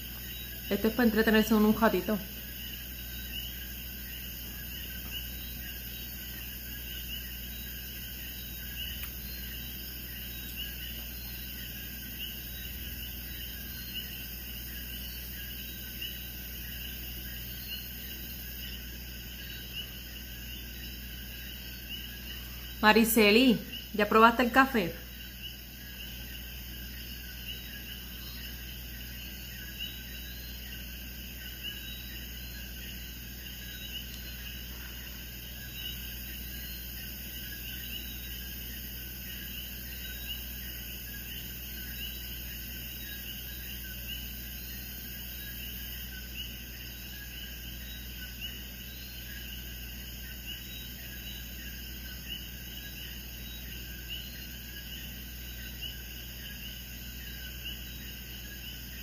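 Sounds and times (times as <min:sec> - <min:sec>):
chirping insects: 0:00.0 - 0:59.0
low steady hum: 0:00.0 - 0:59.0.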